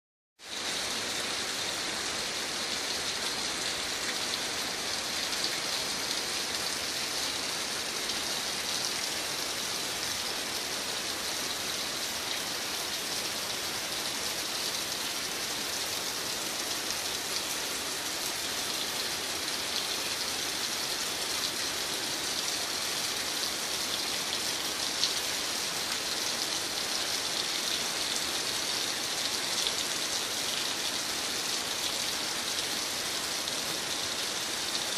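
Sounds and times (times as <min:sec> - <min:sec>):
steady rain: 0:00.4 - 0:34.9.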